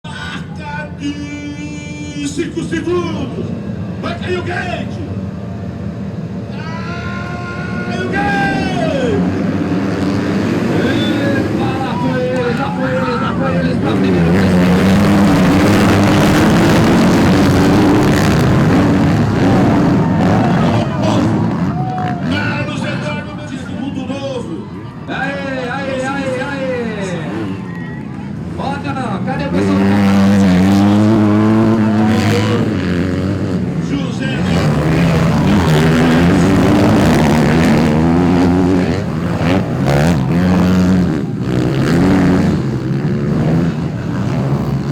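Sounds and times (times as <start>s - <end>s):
motocross bikes racing: 0.1s - 44.9s.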